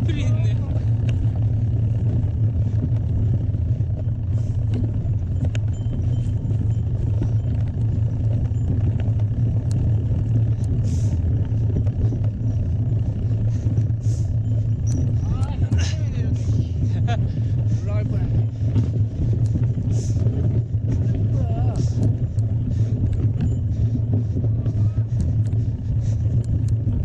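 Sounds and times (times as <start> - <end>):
bike clicks and rattles: 0.0 - 27.0
wind and tyre rumble: 0.0 - 27.0.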